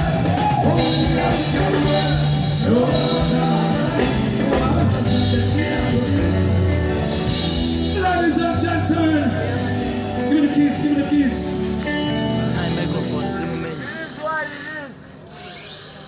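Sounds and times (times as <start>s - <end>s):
long held bass notes: 0.0s - 13.9s
band music: 0.0s - 16.0s.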